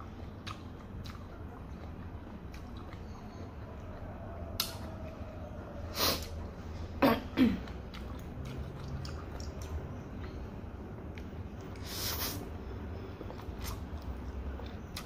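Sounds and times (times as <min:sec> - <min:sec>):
chewing: 0:00.0 - 0:06.6, 0:07.6 - 0:11.9, 0:12.8 - 0:15.0.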